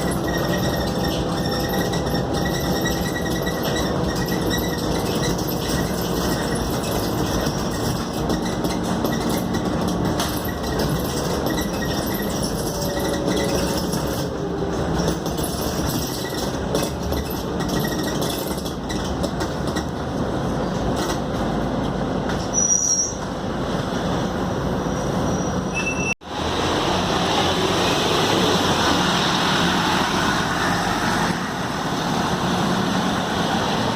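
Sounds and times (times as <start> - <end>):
bus diesel engine drone: 0.0 - 33.9.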